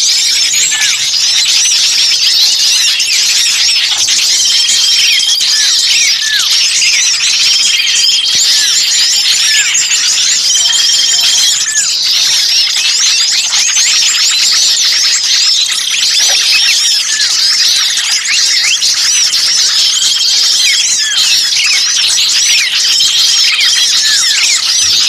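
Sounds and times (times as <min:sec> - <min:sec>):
bird trills and whistled notes: 0:00.0 - 0:25.0
small birds chirping and calling: 0:00.0 - 0:25.0.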